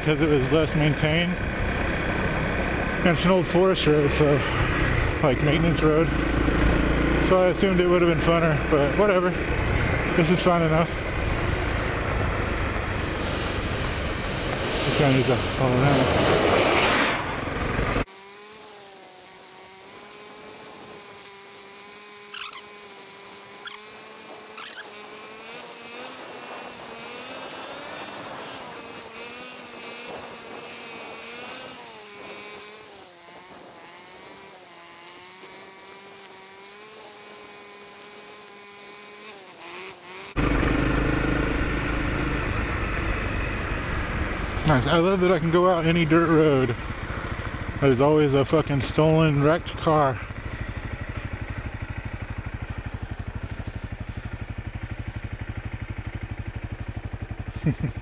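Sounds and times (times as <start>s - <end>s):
motorcycle engine running: 0.0s - 16.3s, 17.1s - 58.0s.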